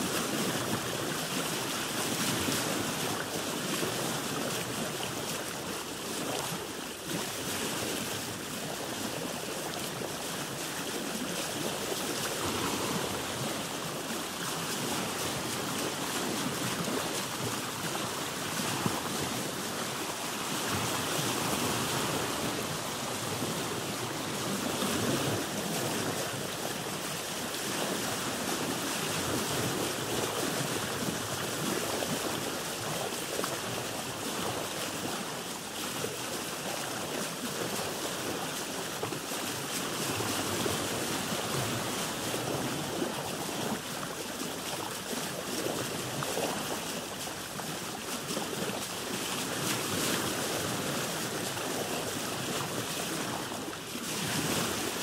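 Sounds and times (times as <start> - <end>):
waves washing around a boat: 0.0 - 55.0.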